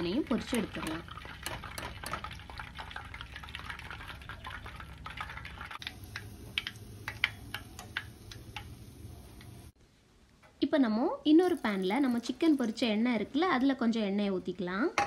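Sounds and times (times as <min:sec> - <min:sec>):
oil sizzling with crackles and pops: 0:00.0 - 0:15.0.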